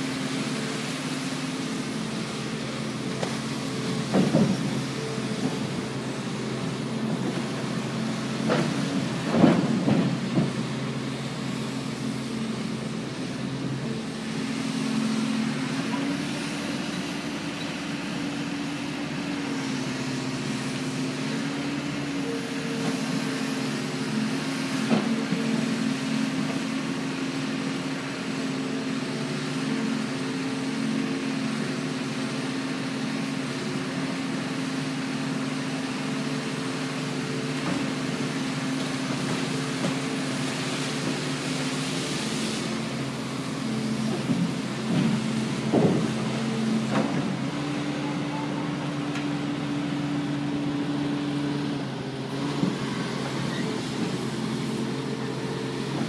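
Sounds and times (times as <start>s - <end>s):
dredger engine droning: 0.0s - 56.0s.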